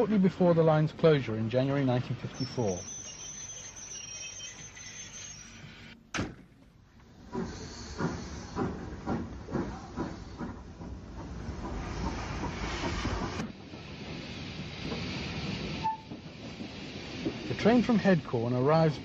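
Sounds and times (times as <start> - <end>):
steam hissing: 1.5 - 6.0, 7.1 - 19.0.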